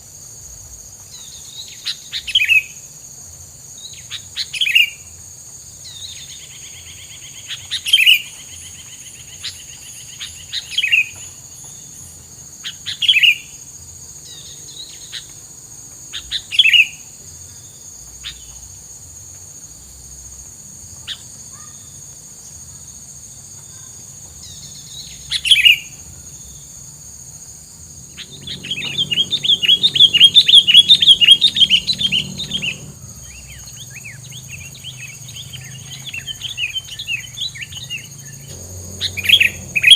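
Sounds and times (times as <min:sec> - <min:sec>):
high insect drone: 0:00.0 - 0:39.9
songbird chirping: 0:00.6 - 0:39.9.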